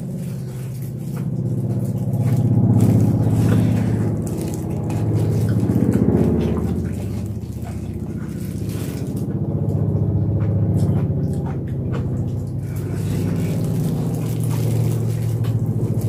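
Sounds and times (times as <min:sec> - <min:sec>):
low buzzing hum: 0:00.0 - 0:16.0.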